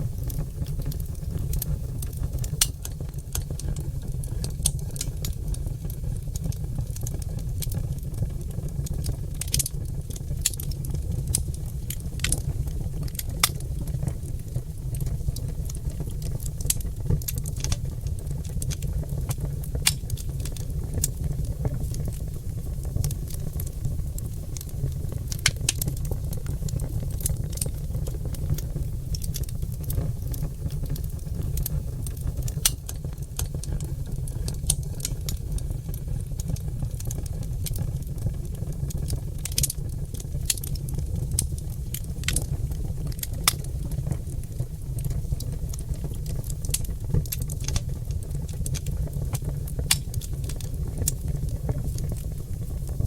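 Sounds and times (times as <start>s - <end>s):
log fire crackling and popping: 0.0s - 53.0s.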